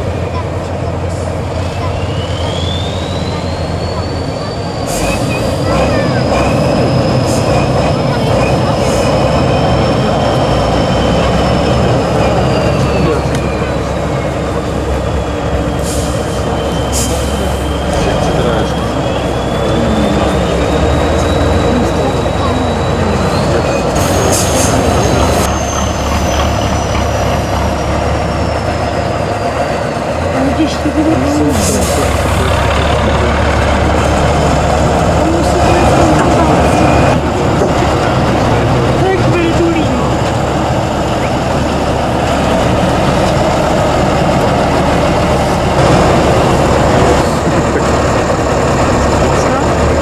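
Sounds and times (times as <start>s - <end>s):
truck diesel engine under load: 0.0s - 50.0s.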